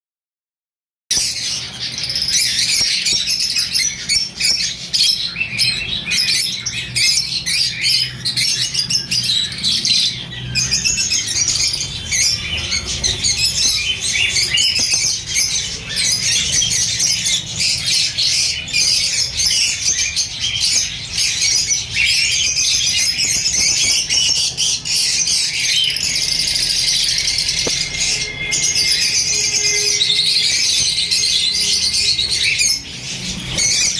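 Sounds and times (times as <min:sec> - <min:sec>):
lovebirds chattering: 0:01.2 - 0:33.9.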